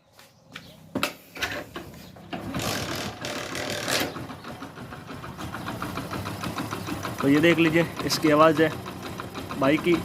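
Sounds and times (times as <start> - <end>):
motorcycle engine starting and idling: 1.0 - 10.0.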